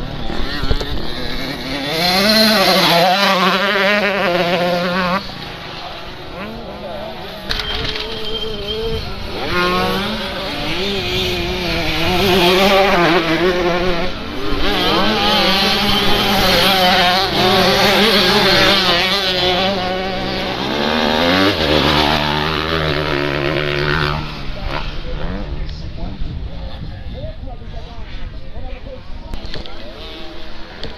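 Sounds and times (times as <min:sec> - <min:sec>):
motocross bike engines revving: 0:00.0 - 0:30.9.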